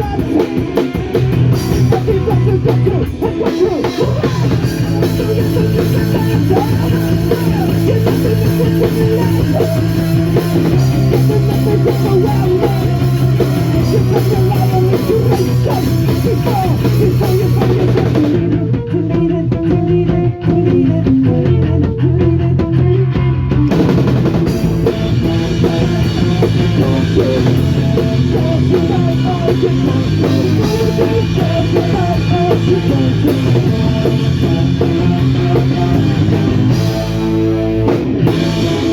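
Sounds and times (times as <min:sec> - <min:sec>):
punk rock band playing live: 0:00.0 - 0:38.9.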